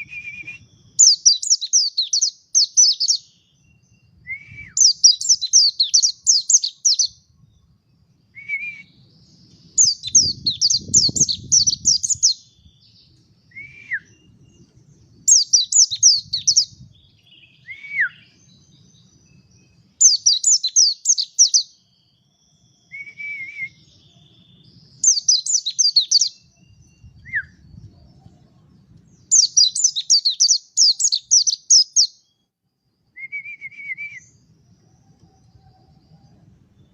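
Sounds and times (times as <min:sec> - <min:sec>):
bird singing twittering notes: 0:00.0 - 0:36.9.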